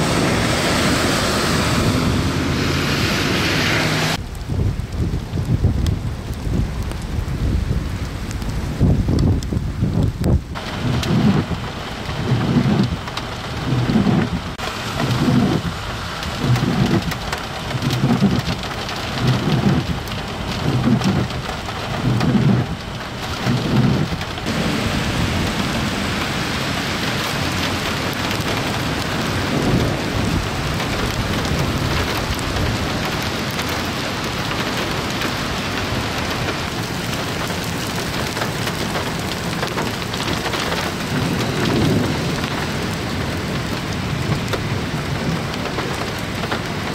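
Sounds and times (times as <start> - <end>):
heavy rain on wet pavement: 0.0 - 46.9.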